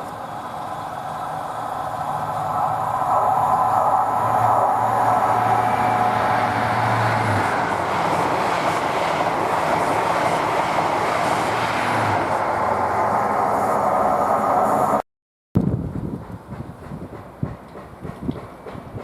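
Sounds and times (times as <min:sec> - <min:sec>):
train wheels rushing on rail: 0:00.0 - 0:15.0, 0:15.6 - 0:19.0.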